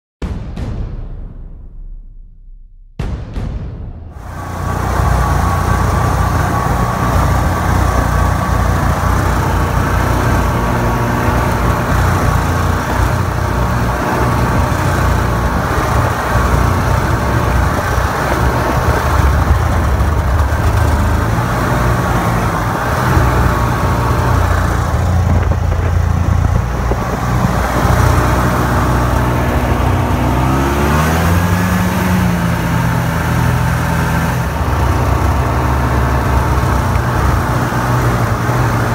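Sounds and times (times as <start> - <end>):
snowmobile engine running: 4.2 - 38.9.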